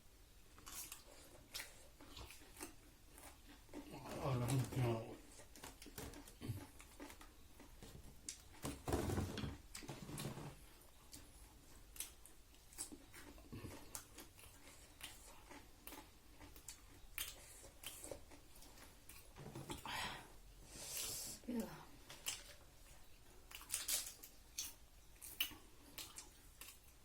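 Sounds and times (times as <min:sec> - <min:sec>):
chewing: 0:00.5 - 0:08.6, 0:09.7 - 0:19.9, 0:20.9 - 0:27.0.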